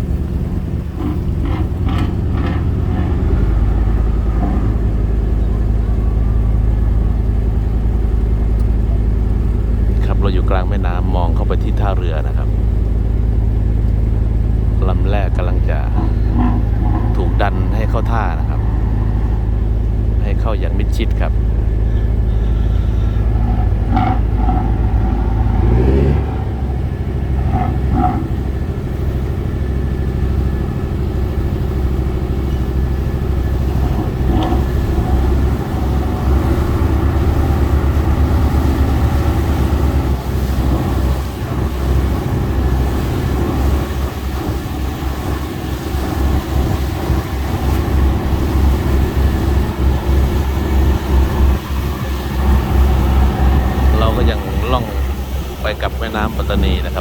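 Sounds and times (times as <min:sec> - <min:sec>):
boat diesel engine running: 0:00.0 - 0:57.0.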